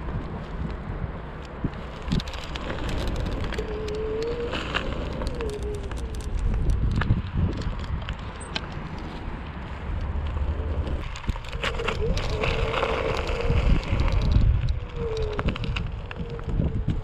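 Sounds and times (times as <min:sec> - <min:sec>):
wind on microphone: 0:00.0 - 0:17.0
tyre rumble: 0:01.6 - 0:17.0.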